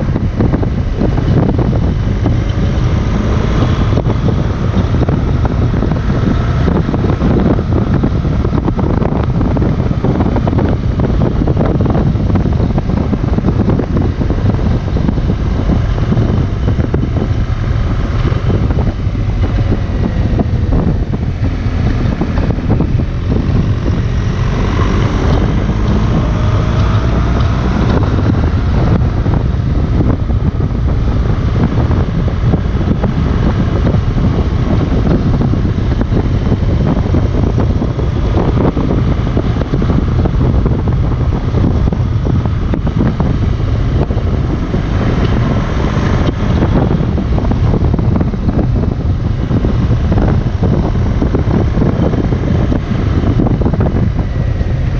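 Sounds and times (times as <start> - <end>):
motorcycle engine: 0.0 - 54.9
wind buffeting microphone: 0.0 - 54.9.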